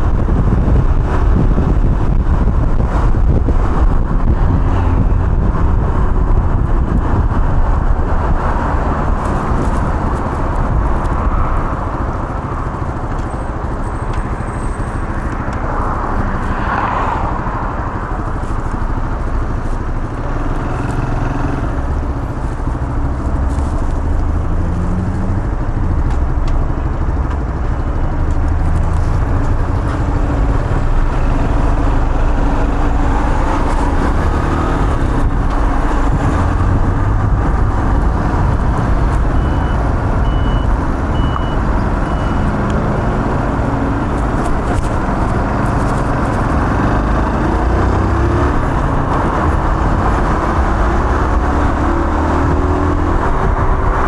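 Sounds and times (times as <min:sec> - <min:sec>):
road riding rush: 0:00.0 - 0:54.0.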